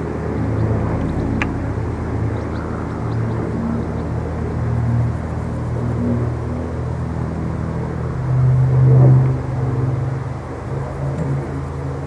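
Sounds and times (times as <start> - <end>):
propeller aircraft engines droning: 0.0 - 12.0.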